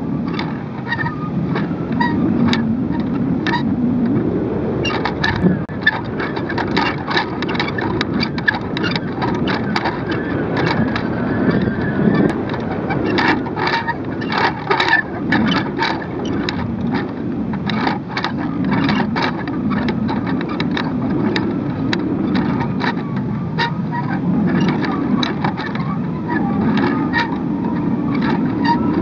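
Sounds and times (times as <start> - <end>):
wind rumbling: 0.0 - 29.0
camera rig clicks and rattles: 0.2 - 4.2, 4.8 - 29.0.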